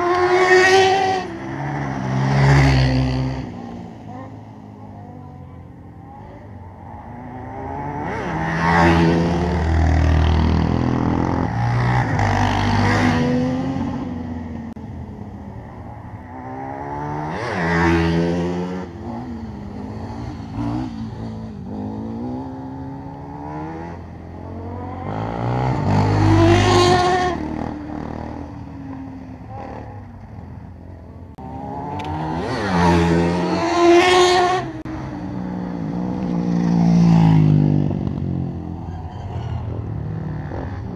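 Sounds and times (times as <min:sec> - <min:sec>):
quad bike engines revving past: 0:00.0 - 0:40.9.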